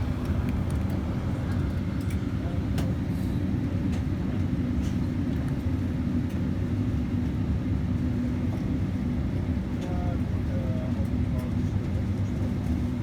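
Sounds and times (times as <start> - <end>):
airliner cabin rumble and hum: 0.0 - 13.0.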